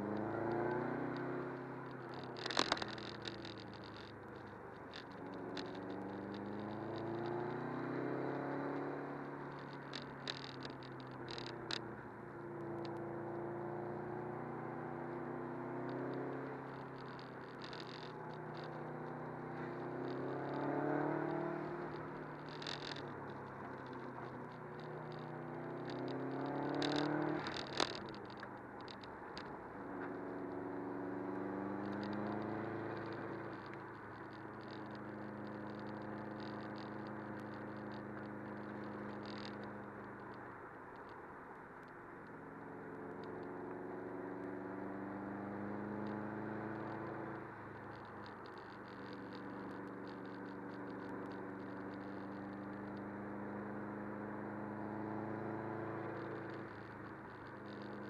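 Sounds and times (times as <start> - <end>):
car engine revving: 0.0 - 40.6, 42.3 - 58.0.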